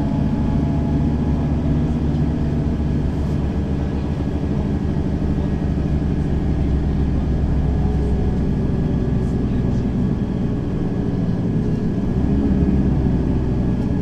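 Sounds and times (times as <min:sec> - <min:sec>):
bus engine running with deep hum: 0:00.0 - 0:14.0.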